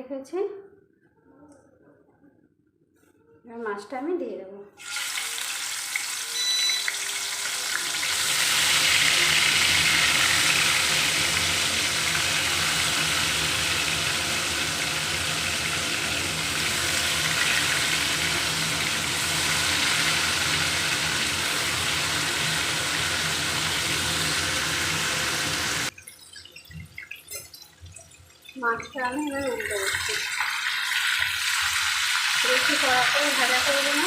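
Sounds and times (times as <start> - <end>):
fish frying in hot oil: 4.8 - 34.0.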